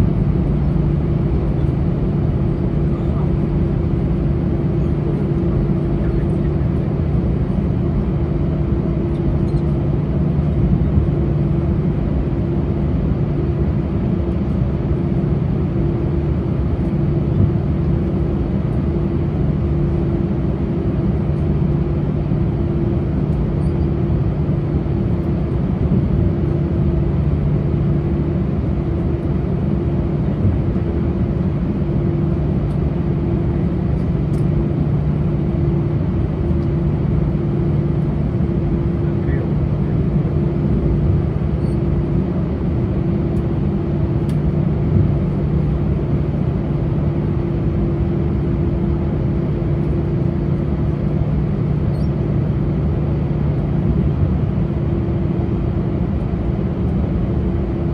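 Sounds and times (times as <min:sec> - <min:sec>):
airplane cabin hum: 0:00.0 - 0:57.9.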